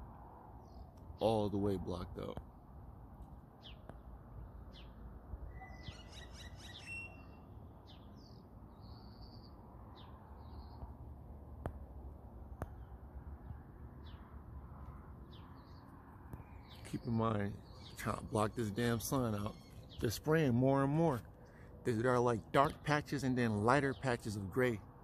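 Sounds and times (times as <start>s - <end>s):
small birds chirping: 3.2s - 11.9s, 12.5s - 24.9s.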